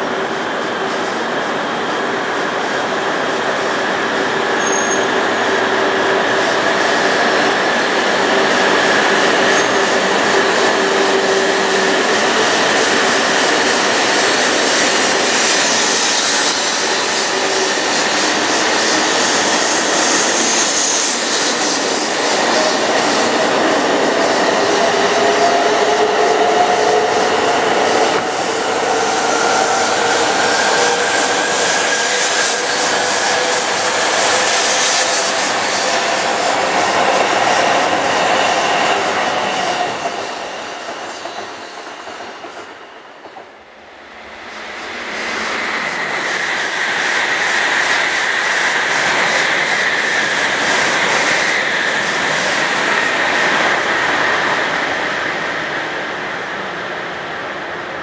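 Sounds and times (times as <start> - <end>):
wheel and rail rush: 0.0 - 58.0.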